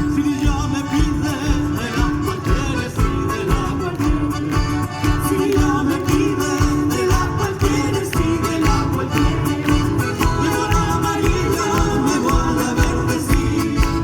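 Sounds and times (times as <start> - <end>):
folk guitar: 0.0 - 14.0
person singing: 0.0 - 14.0.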